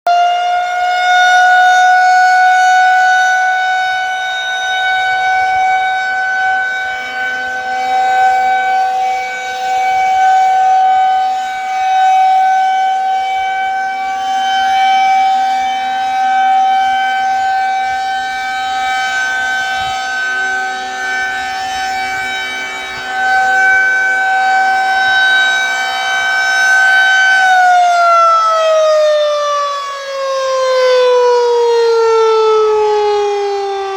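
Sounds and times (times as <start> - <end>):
rotating warning siren: 0.0 - 33.9.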